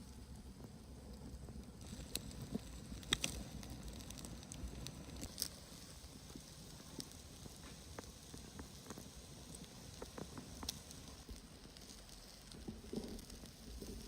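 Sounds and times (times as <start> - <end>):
campfire crackling and popping: 0.0 - 14.0
low hiss: 0.0 - 14.0.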